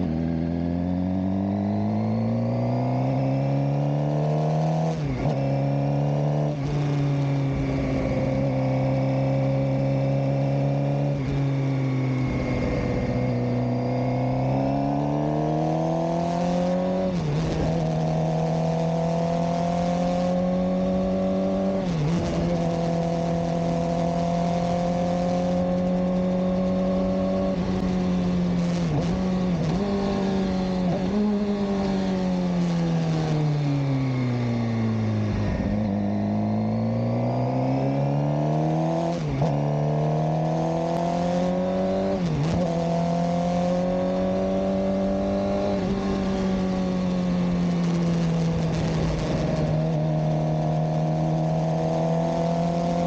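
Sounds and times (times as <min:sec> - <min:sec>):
motorcycle engine and exhaust: 0:00.0 - 0:53.0.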